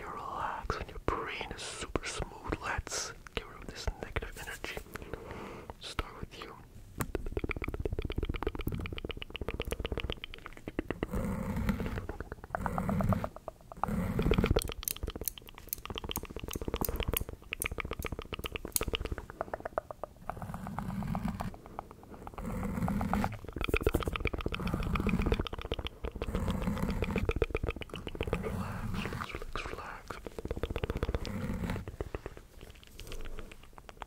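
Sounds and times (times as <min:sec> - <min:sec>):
wet mouth clicking and smacking: 0:02.0 - 0:06.4, 0:07.0 - 0:34.0.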